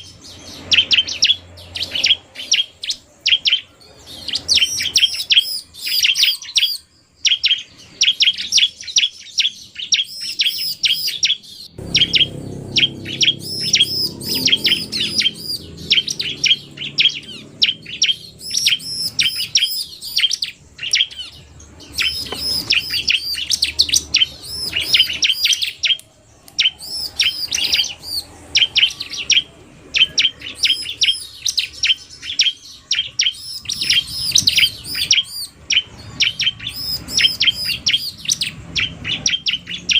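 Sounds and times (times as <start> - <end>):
bird song: 0.0 - 39.9
birds chirping fast: 0.0 - 39.9.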